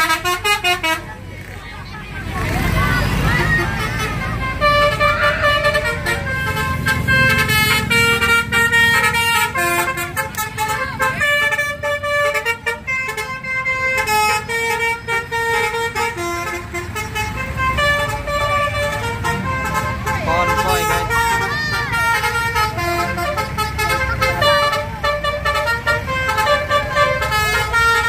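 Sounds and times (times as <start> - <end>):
musical bus horn melody: 0.0 - 1.2, 2.4 - 28.0
bus engines rumbling: 0.0 - 28.0.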